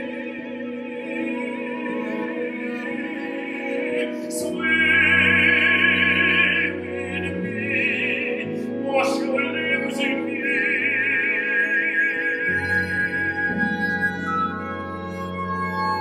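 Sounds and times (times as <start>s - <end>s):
chamber ensemble playing: 0.0s - 16.0s
operatic singing: 0.0s - 16.0s.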